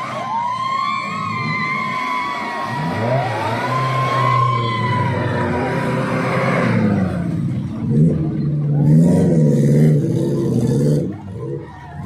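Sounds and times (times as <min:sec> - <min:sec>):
off-road vehicle engine revving: 0:01.0 - 0:12.0.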